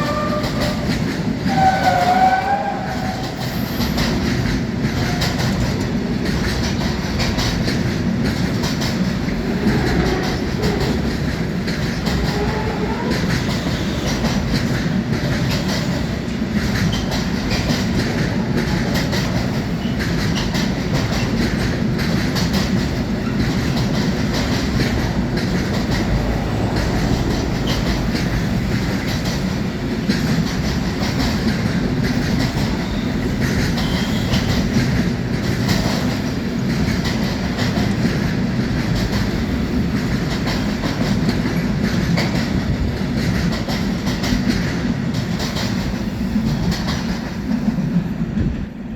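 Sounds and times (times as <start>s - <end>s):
train wheels clattering: 0.0s - 48.9s.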